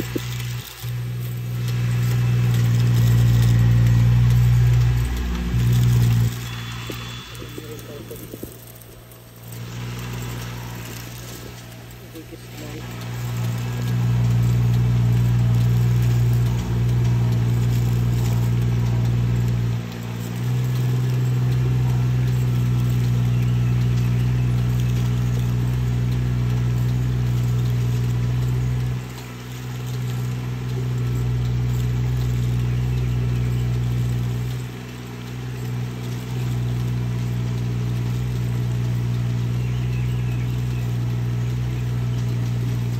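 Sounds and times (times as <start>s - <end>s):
engine humming steadily: 0.0s - 42.9s.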